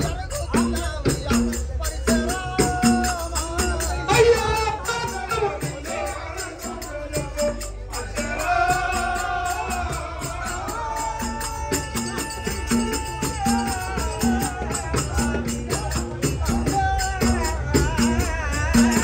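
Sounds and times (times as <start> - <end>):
crisp ticking percussion: 0.0 - 19.0.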